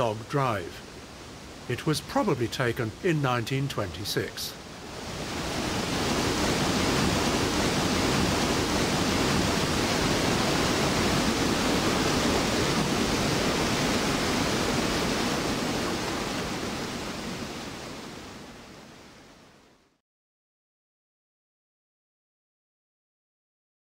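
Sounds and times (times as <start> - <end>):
whitewater rushing over rocks: 0.0 - 19.3.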